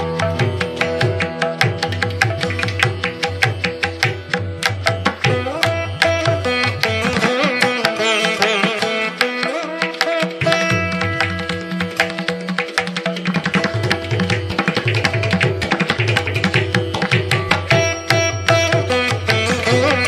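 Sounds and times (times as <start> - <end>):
plucked strings: 0.0 - 20.0
tabla rhythm: 0.0 - 20.0.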